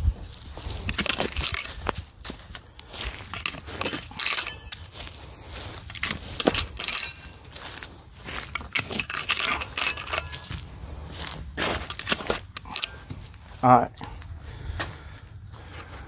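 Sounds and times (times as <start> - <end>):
metal tent stakes clinking: 0.6 - 13.8.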